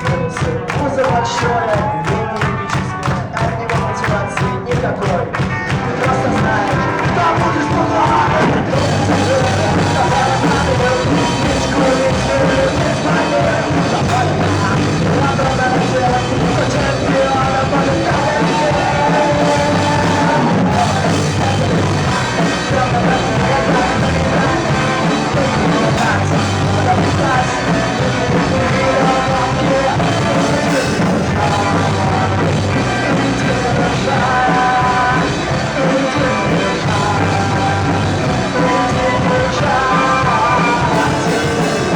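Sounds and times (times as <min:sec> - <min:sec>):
person singing: 0:00.0 - 0:41.9
rock band playing live: 0:00.0 - 0:41.9.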